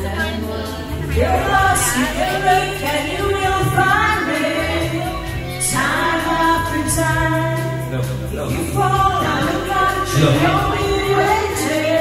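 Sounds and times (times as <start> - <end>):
woman singing karaoke: 0.0 - 7.9, 8.5 - 12.0
backing track with bass line: 0.0 - 12.0.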